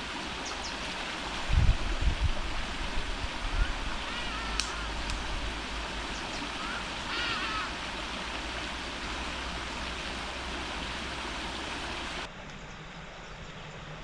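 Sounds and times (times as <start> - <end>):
river water rushing: 0.0 - 12.3.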